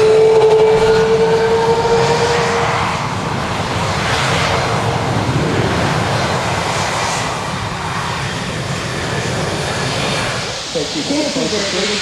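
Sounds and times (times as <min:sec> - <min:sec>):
aircraft engines roaring: 0:00.0 - 0:12.0.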